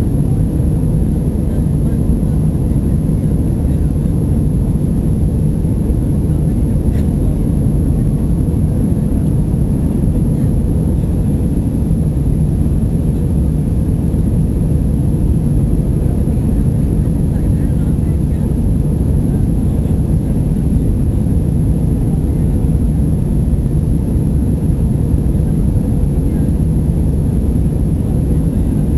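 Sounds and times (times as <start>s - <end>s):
low rumble of engines and airflow: 0.0s - 28.9s.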